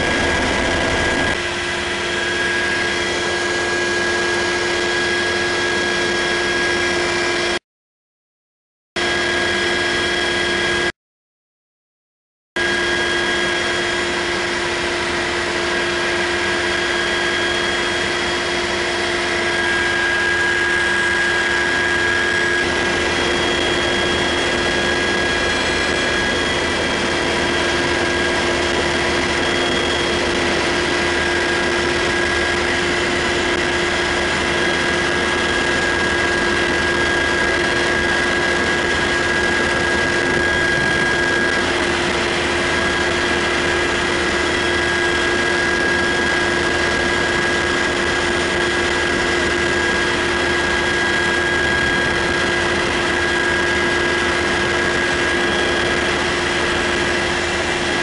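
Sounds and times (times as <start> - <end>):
helicopter cabin drone: 0.0 - 7.6, 9.0 - 11.0, 12.6 - 58.0.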